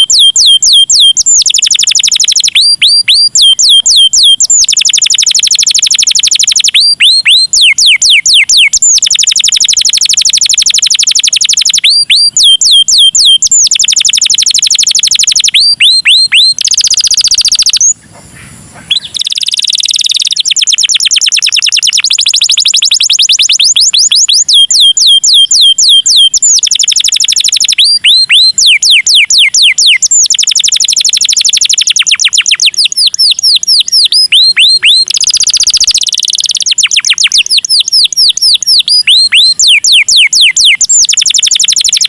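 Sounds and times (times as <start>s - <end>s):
canary singing with trills: 0.0s - 42.0s.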